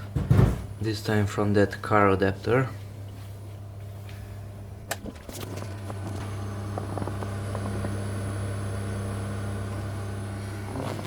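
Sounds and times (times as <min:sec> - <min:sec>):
compressor fridge humming: 0:00.0 - 0:11.0.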